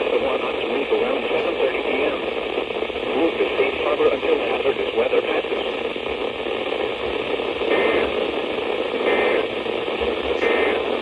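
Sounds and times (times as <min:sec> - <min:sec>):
radio static hiss with crackle: 0:00.0 - 0:11.0.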